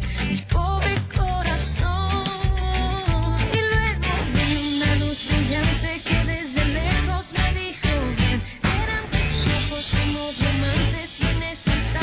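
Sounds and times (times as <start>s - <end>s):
pop music with beat: 0.0s - 12.0s.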